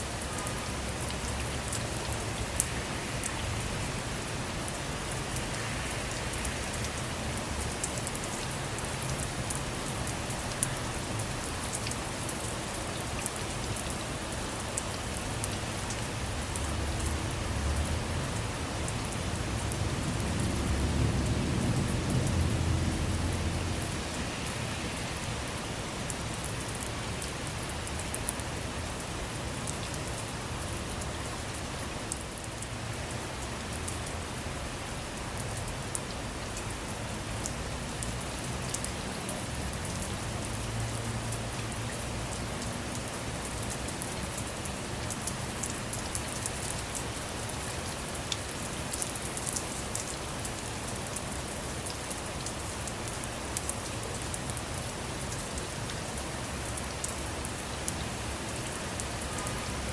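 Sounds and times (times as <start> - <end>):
rain pattering on vehicle roof: 0.1 - 59.9.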